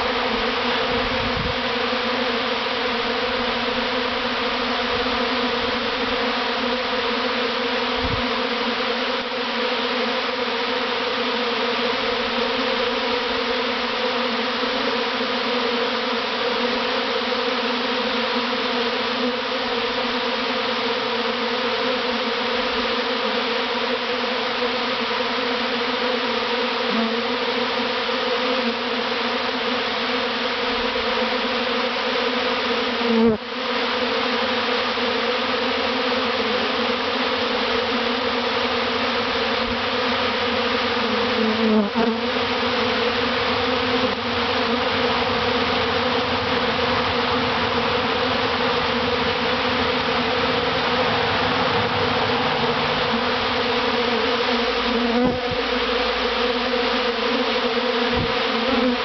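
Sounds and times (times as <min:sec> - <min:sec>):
bee swarm buzzing: 0:00.0 - 0:59.0.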